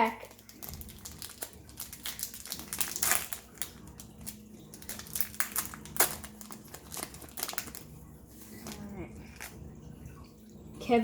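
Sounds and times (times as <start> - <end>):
wrapper crinkling: 0.0 - 9.6.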